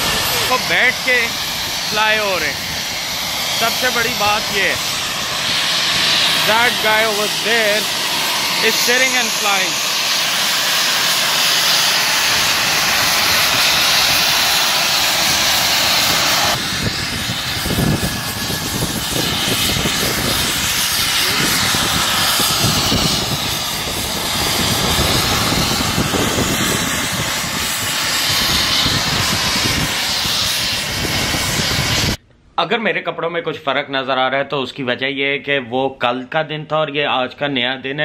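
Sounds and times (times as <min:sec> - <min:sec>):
model jet turbine hiss: 0:00.0 - 0:32.2.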